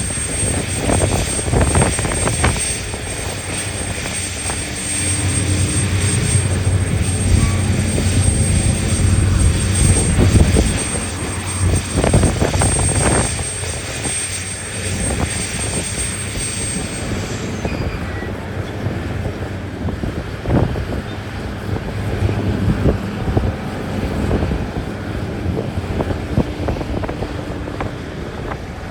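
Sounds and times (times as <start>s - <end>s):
heavy diesel engines droning: 0.0s - 28.9s.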